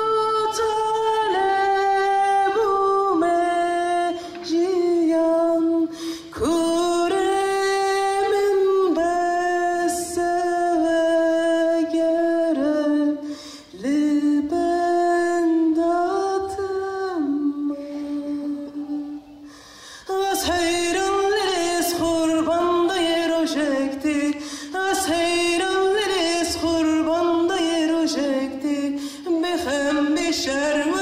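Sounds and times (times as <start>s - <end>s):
person singing long held notes: 0.0s - 31.0s.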